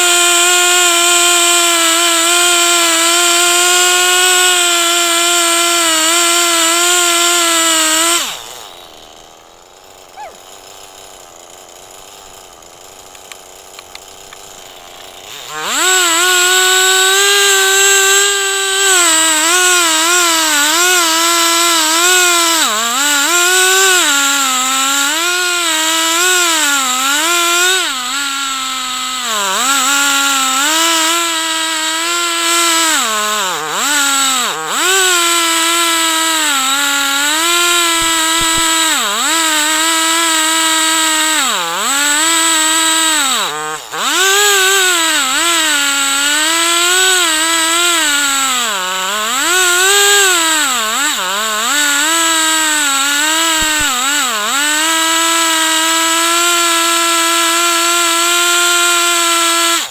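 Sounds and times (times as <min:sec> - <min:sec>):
chainsaw mill cutting log: 0:00.0 - 0:59.9.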